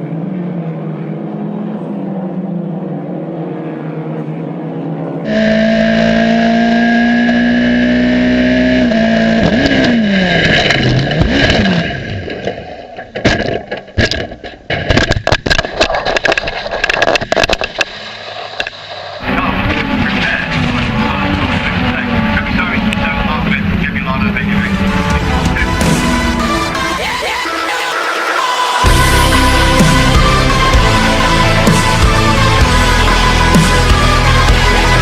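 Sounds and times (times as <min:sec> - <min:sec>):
race car engine at high revs: 0:00.0 - 0:12.5, 0:17.4 - 0:35.0.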